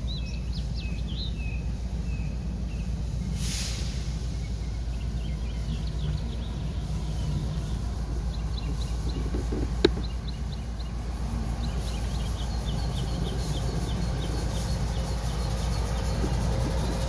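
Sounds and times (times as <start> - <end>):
bird chirping: 0.0 - 3.4, 4.4 - 17.0
diesel locomotive rumble: 0.0 - 17.0.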